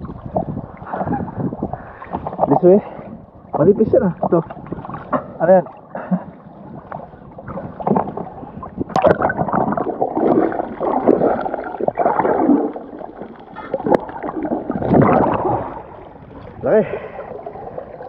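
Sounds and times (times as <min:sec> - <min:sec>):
underwater gurgling and sloshing: 0:00.0 - 0:18.0.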